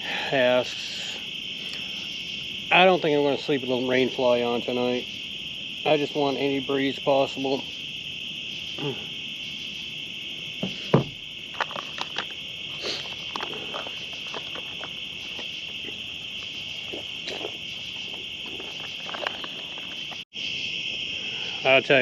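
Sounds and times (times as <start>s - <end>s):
crickets and insects chirring: 0.0s - 22.0s.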